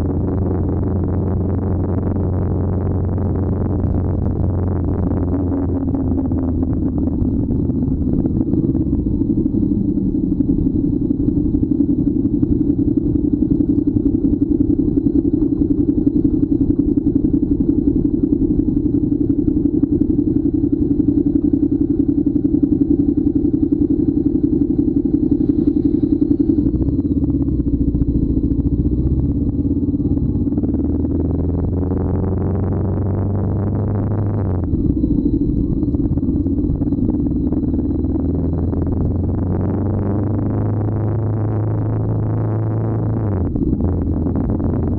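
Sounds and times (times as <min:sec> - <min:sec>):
motorcycle engine droning: 0:00.0 - 0:44.9.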